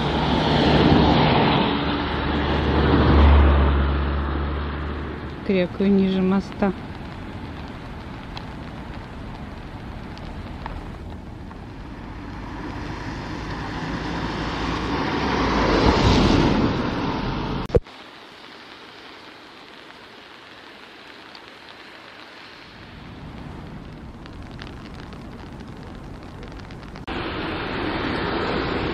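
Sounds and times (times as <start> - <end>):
steady rain hiss: 0.0 - 28.9
vehicle passing on wet road: 0.0 - 28.9.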